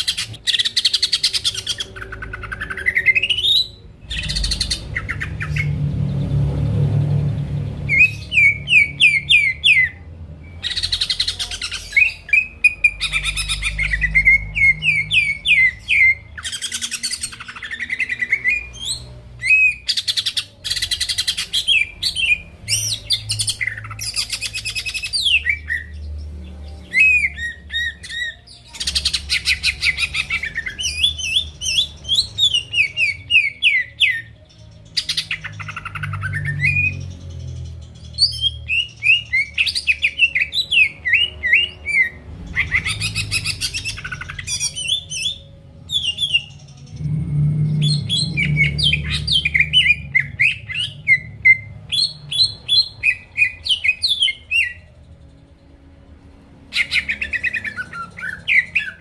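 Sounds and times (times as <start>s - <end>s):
bird singing: 0.0s - 55.8s, 56.6s - 59.0s.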